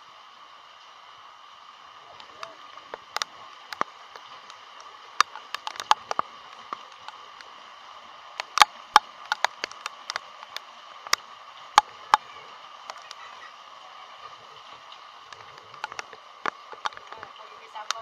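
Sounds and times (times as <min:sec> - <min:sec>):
steady rain hiss: 0:00.0 - 0:18.0
raindrops tapping near microphone: 0:00.8 - 0:18.0.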